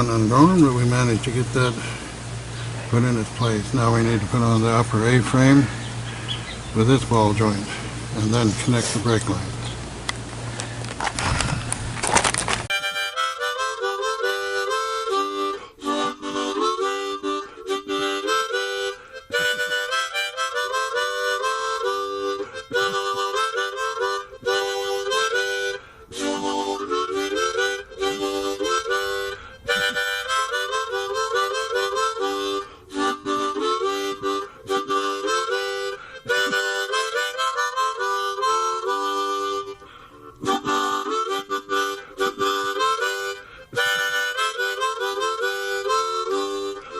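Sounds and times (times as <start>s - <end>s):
harmonica playing bluesy tune: 0.0s - 9.6s, 12.3s - 46.9s.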